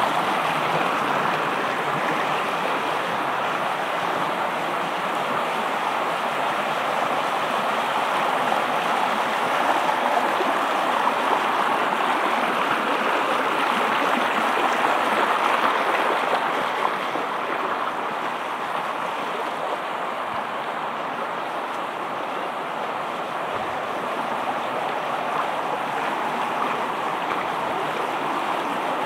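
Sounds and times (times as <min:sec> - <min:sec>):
stream rippling over rocks: 0:00.0 - 0:29.0.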